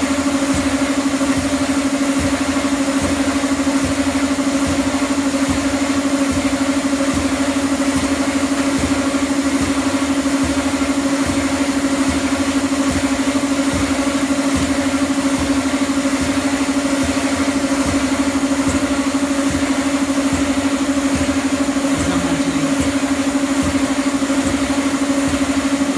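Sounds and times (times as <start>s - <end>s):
machine motor hum with pulse: 0.0s - 25.9s.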